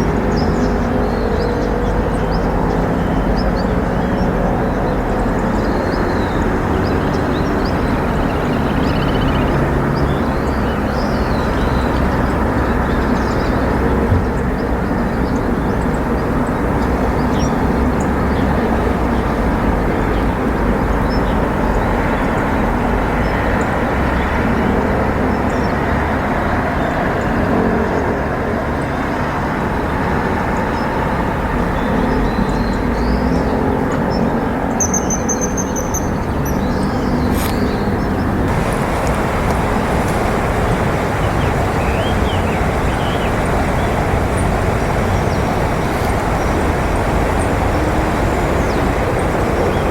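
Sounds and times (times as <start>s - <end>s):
outdoor background rumble: 0.0s - 49.9s.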